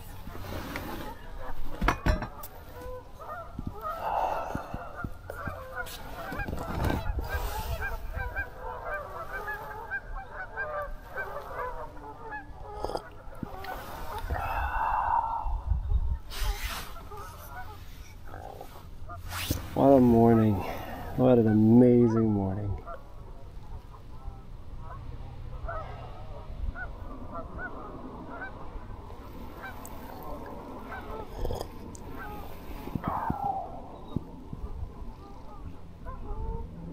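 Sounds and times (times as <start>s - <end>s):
geese honking: 0.9s - 14.8s, 16.7s - 26.0s, 26.7s - 28.8s, 29.5s - 33.6s, 34.6s - 36.9s.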